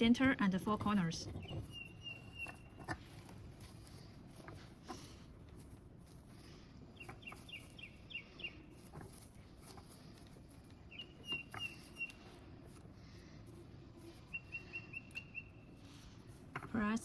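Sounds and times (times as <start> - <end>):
small bird chirping: 0.7 - 4.5, 6.3 - 17.0.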